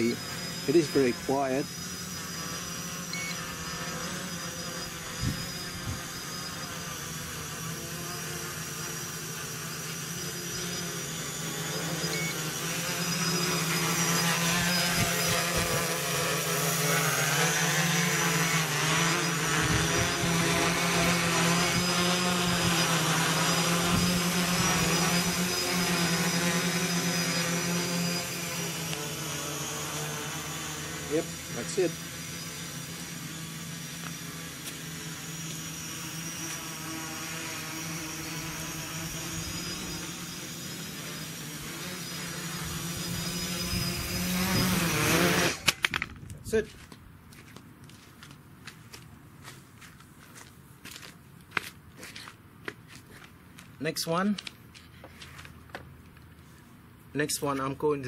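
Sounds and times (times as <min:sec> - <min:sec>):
quadcopter propellers buzzing: 0:00.0 - 0:46.9.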